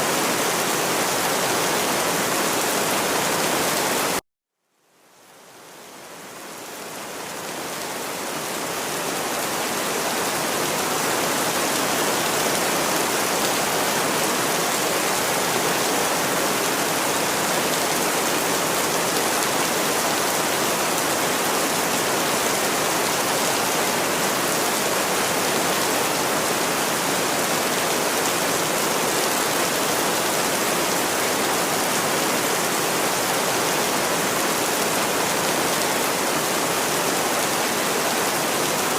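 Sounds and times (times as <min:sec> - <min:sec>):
heavy rain: 0:00.0 - 0:04.2, 0:05.0 - 0:38.9.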